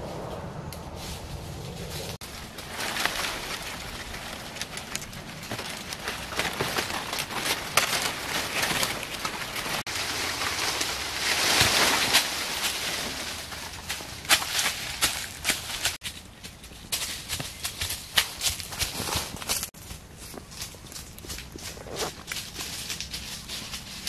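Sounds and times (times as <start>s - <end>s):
branches and leaves rustling: 0.0s - 24.0s
twigs snapping: 2.2s - 24.0s.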